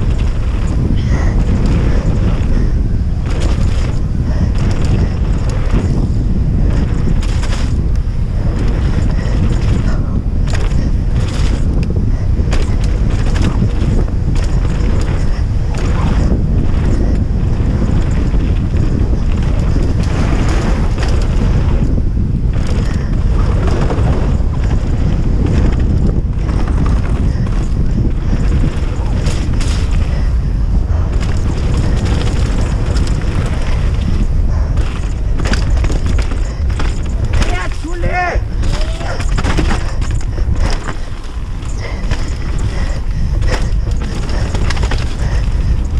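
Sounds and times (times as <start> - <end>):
bike knocks and rattles: 0.0 - 45.9
wind buffeting microphone: 0.0 - 45.9.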